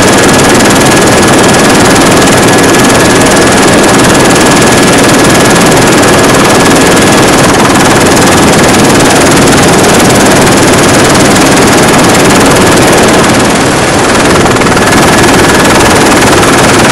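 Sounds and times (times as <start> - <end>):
helicopter rotor and engine rumble: 0.0 - 16.9
thin steady whine: 0.0 - 16.9.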